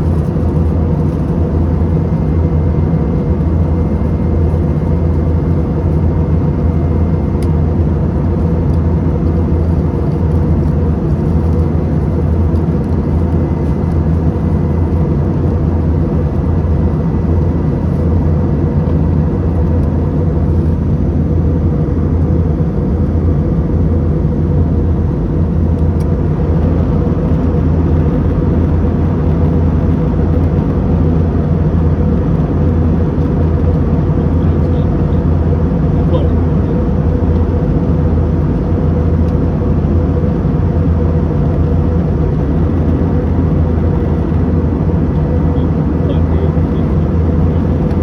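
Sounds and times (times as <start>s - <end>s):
airliner cabin drone: 0.0s - 48.0s.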